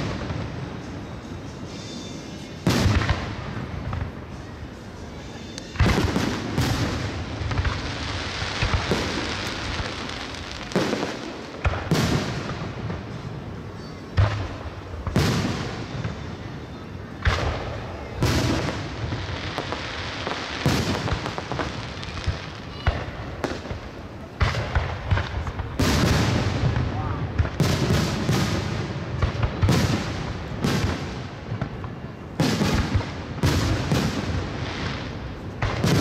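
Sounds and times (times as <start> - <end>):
firework rumble and crackle: 0.0 - 36.0.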